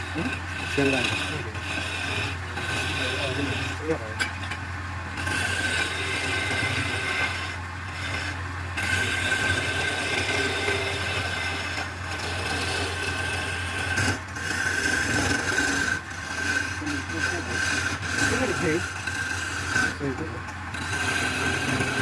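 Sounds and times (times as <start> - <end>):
chisel cutting spinning wood: 0.0 - 22.0
lathe low hum: 0.0 - 22.0.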